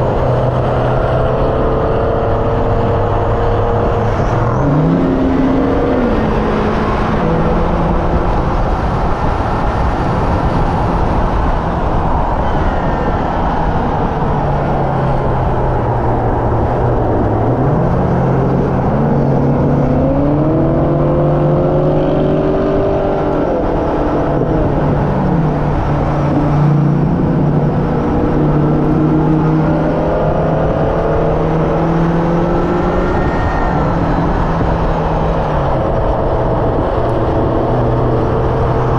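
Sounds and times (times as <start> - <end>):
car engine running hard: 0.0 - 38.9
road noise: 0.0 - 38.9
wind noise: 0.0 - 38.9.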